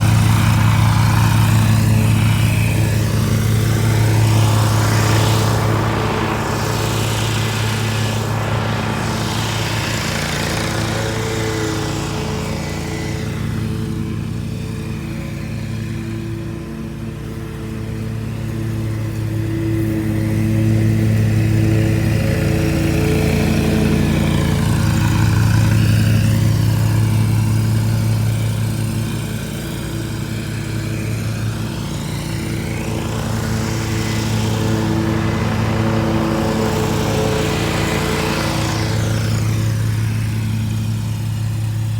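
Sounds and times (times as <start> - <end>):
mower engine drone: 0.0 - 41.9.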